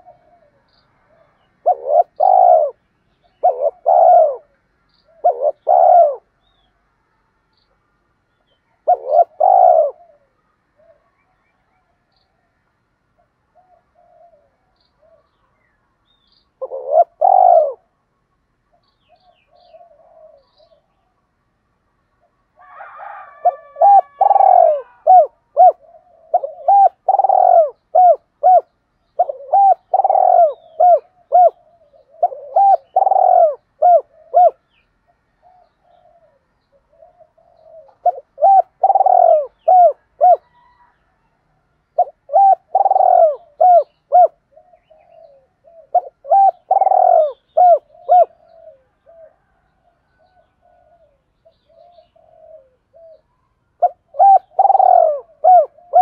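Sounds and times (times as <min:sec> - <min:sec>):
dove cooing: 0:00.0 - 0:06.6, 0:08.6 - 0:11.9, 0:13.1 - 0:15.7, 0:16.6 - 0:18.0, 0:18.7 - 0:21.1, 0:22.2 - 0:41.2, 0:41.8 - 0:56.0.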